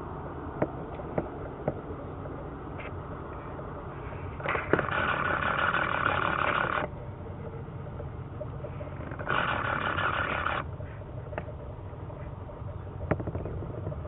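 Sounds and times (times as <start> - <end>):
tow tractor engine rumble: 0.0 - 14.0.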